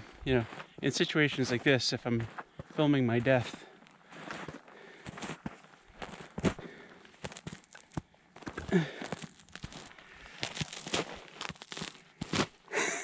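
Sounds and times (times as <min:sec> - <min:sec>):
footsteps crunching through snow: 0:00.0 - 0:12.6.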